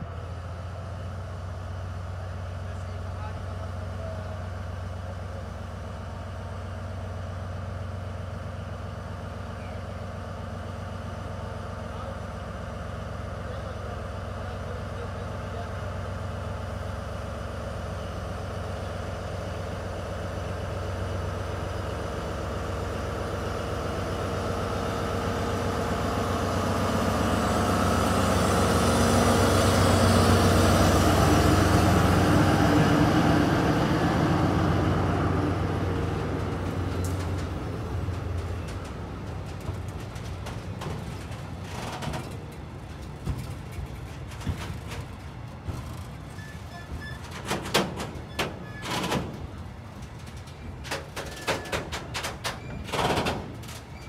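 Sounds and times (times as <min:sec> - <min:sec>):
diesel locomotive engine humming: 0:00.0 - 0:54.0.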